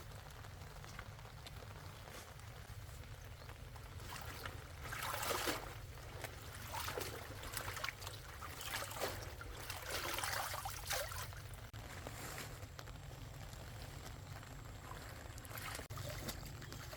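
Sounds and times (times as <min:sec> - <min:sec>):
water splashing and trickling: 0:00.0 - 0:11.8, 0:12.8 - 0:16.9.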